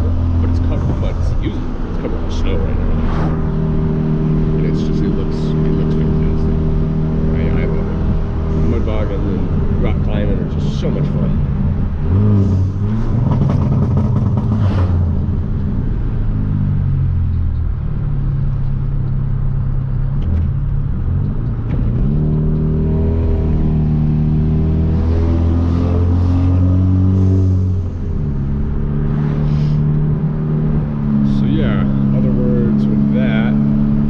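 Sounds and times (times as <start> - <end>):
car engine cruising: 0.0 - 34.0.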